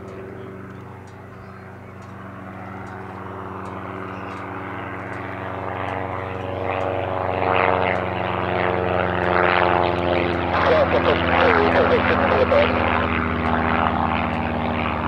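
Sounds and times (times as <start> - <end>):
propeller planes droning past: 0.0 - 15.0.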